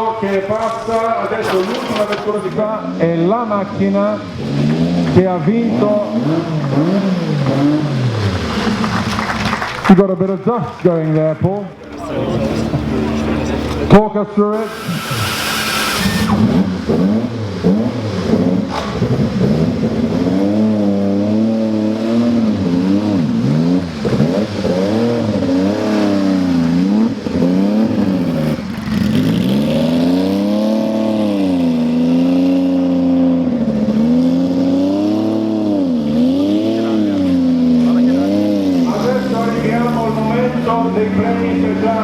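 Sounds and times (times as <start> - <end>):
car engine revving: 0.0 - 10.1, 11.7 - 42.0.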